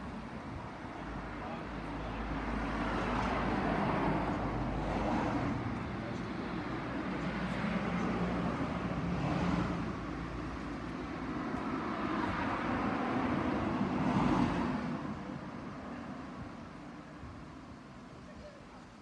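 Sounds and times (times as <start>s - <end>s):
traffic engine hum and road noise: 0.0s - 19.0s.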